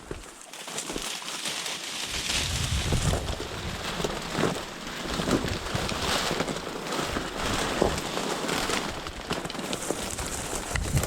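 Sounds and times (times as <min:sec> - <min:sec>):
dry stalks rustling and crackling: 0:00.0 - 0:11.0.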